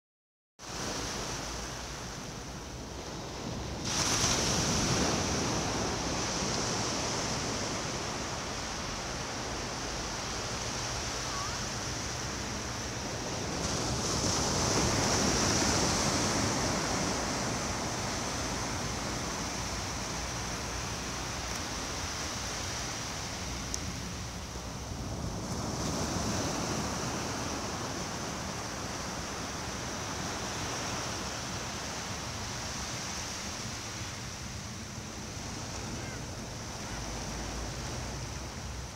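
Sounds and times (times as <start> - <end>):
small waves breaking on sand: 0.6 - 38.9.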